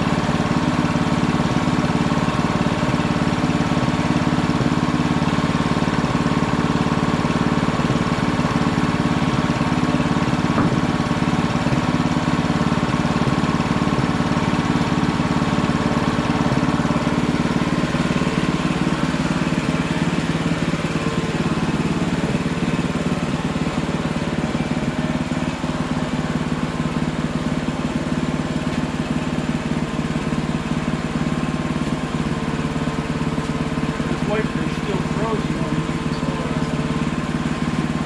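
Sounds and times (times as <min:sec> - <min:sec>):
sawmill gasoline engine running: 0:00.0 - 0:38.0.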